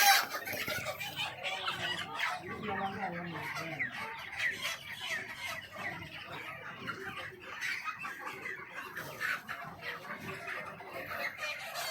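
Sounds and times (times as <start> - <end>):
chickens clucking: 0.0 - 11.9.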